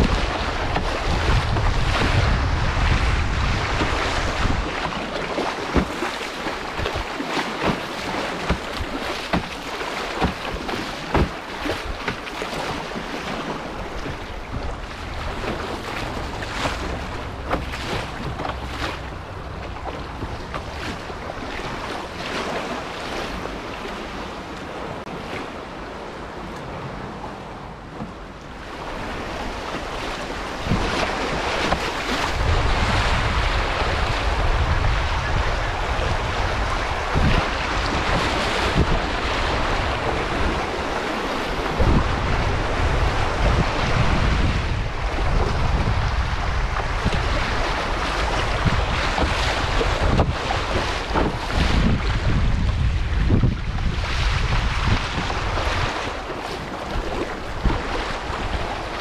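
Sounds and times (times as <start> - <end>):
wind buffeting microphone: 0.0 - 25.1, 26.4 - 59.0
paddle stroke splashes: 0.0 - 26.0, 27.8 - 59.0
river rushing and splashing: 0.0 - 59.0.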